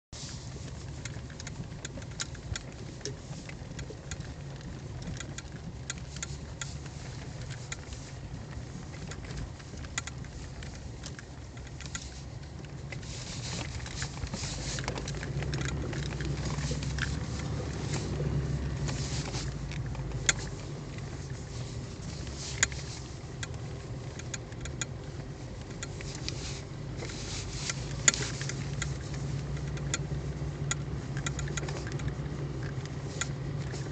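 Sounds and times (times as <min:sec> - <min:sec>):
car engine running: 0:00.2 - 0:33.9
small clicks and rattles: 0:00.2 - 0:33.9.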